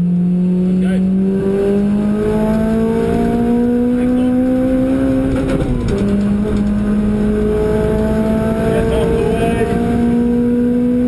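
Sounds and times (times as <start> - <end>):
car engine accelerating: 0.0 - 11.0
road and wind noise: 0.0 - 11.0.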